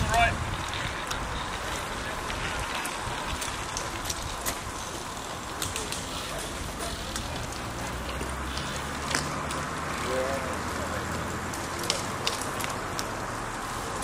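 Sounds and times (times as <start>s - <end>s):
bicycles hissing past: 0.0s - 14.0s
faint voices: 0.0s - 14.0s
light bicycle clicks: 0.0s - 14.0s.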